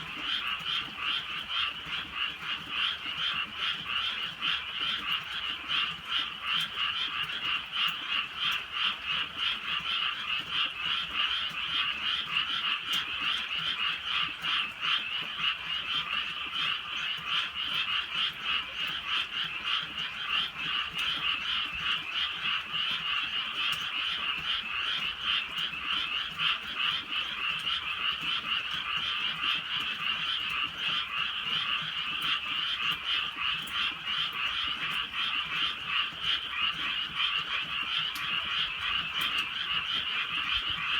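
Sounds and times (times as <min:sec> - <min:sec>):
chorus of frogs croaking: 0:00.0 - 0:40.9.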